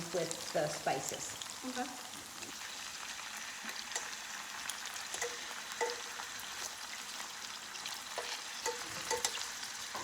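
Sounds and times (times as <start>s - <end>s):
chicken frying in fat: 0.0s - 10.0s.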